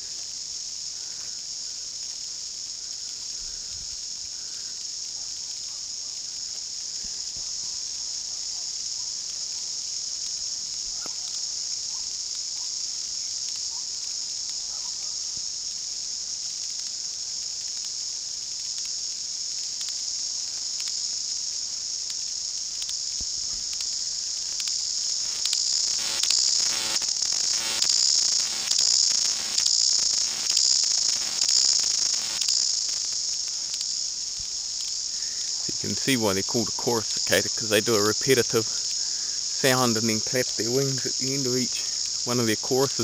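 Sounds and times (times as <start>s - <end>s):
cicada chorus: 0.0s - 43.0s
nearby cicada pulsing with clicks: 0.0s - 43.0s.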